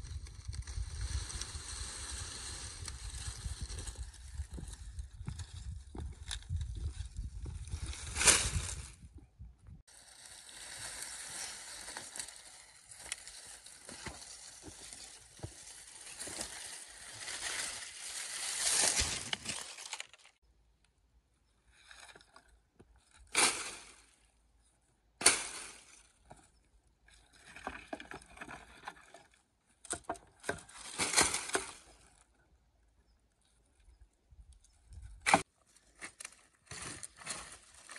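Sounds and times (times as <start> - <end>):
dry stalks and leaves rustling: 0.0 - 9.2, 9.9 - 20.4, 21.7 - 24.3, 25.2 - 32.6, 33.4 - 37.9.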